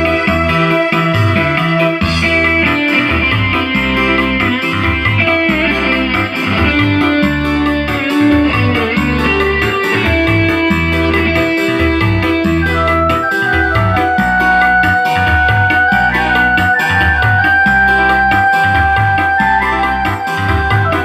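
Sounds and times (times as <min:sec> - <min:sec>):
band playing bass keyboards drums: 0:00.0 - 0:21.0
electric guitar solo: 0:00.0 - 0:21.0.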